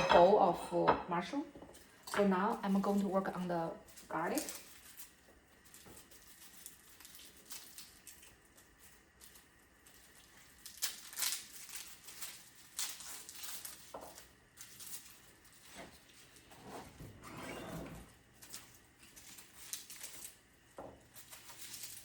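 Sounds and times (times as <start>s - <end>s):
garlic skin rustling: 1.7s - 22.0s.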